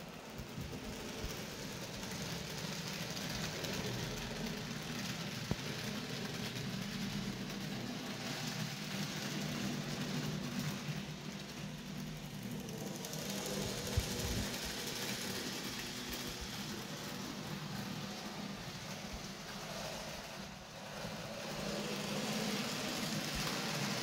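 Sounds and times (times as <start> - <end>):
model train motor whirring: 0.0 - 24.0.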